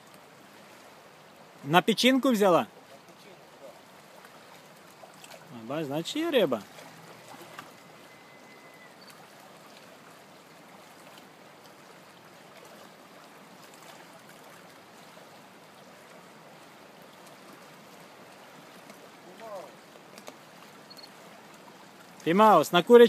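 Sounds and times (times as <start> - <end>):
flowing river water: 0.0 - 23.0.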